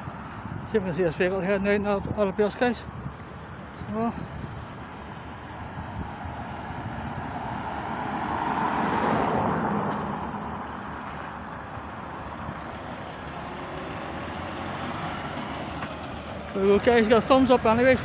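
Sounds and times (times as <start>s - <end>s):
lorry diesel engine: 2.1s - 18.0s.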